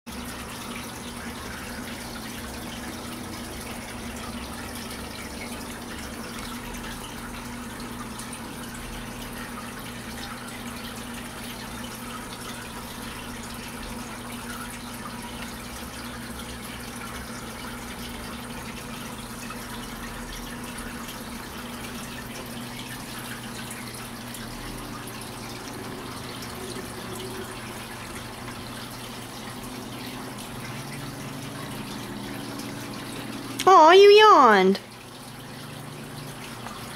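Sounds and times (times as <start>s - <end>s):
aquarium filter hum: 0.1s - 36.9s
water trickling into aquarium: 0.1s - 36.9s.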